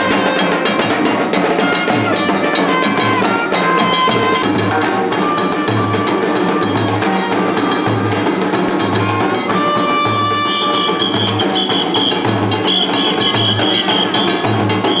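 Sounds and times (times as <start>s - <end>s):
held melodic notes: 0.0s - 15.0s.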